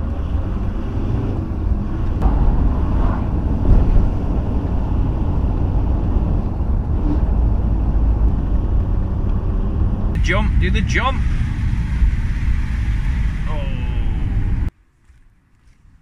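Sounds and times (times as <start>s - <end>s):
van engine and road rumble: 0.0s - 16.0s
wind buffeting: 0.0s - 16.0s.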